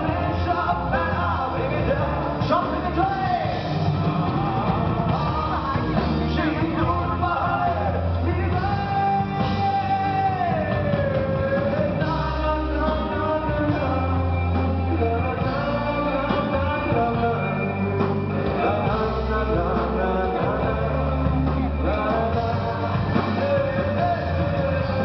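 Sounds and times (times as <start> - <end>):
drums: 0.0 - 25.0
electric guitar: 0.0 - 25.0
person singing: 0.0 - 25.0
rock band playing live: 0.0 - 25.0.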